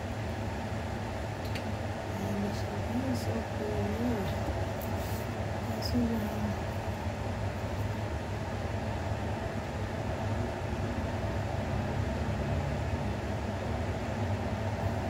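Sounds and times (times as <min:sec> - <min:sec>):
electric fan whirring: 0:00.0 - 0:15.0.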